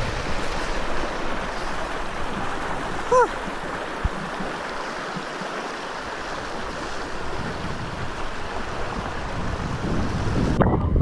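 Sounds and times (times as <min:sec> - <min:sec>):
water lapping and sloshing: 0:00.0 - 0:11.0.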